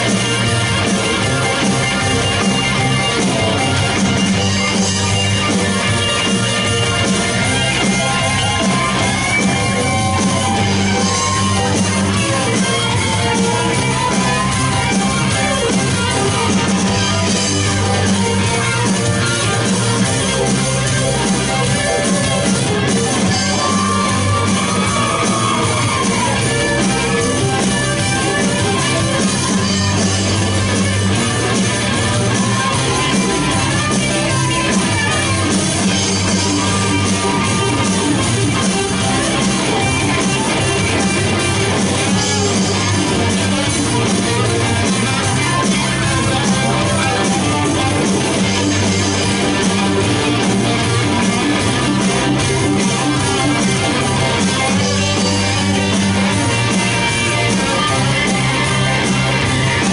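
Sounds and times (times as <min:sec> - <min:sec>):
electric guitar: 0:00.0 - 0:59.9
live rock band playing: 0:00.0 - 0:59.9.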